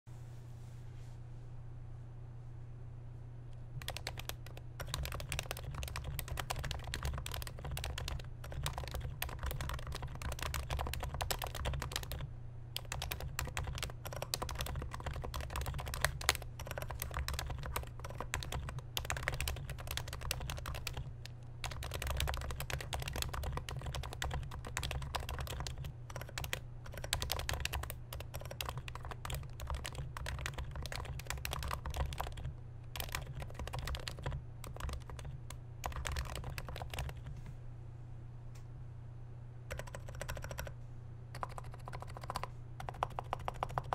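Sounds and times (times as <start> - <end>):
muted keyboard typing: 3.8 - 37.3, 39.7 - 43.9.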